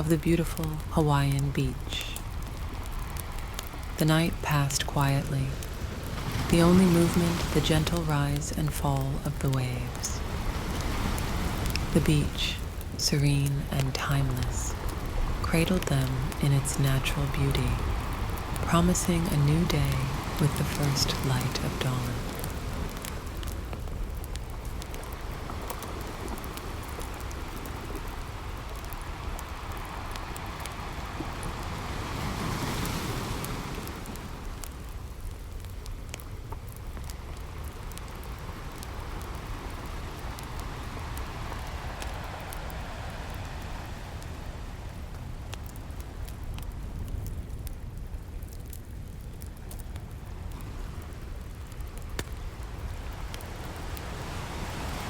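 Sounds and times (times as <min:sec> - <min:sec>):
campfire crackling and popping: 0:00.0 - 0:55.0
ocean waves: 0:00.0 - 0:55.0.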